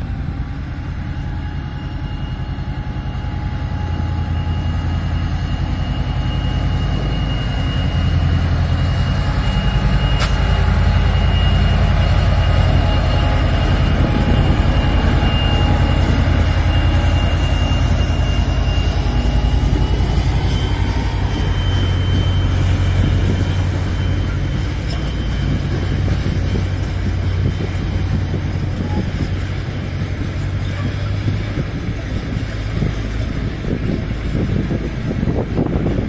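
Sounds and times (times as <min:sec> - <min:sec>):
diesel locomotive engine drone: 0:00.0 - 0:36.0
high wheel whine: 0:00.0 - 0:36.0.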